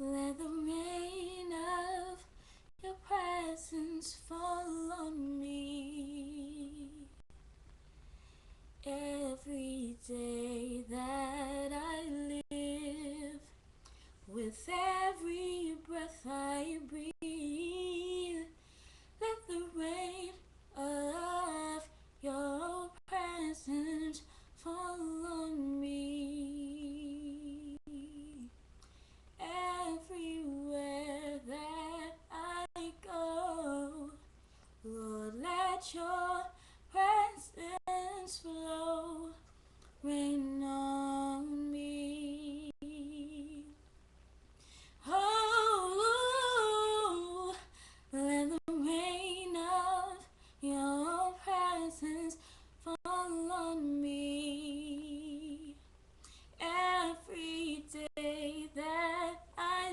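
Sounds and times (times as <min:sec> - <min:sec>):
woman singing gospel song: 0:00.0 - 0:07.2, 0:08.8 - 0:13.5, 0:14.3 - 0:18.6, 0:19.2 - 0:28.5, 0:29.4 - 0:34.2, 0:34.8 - 0:43.8, 0:45.0 - 0:55.8, 0:56.6 - 0:59.9.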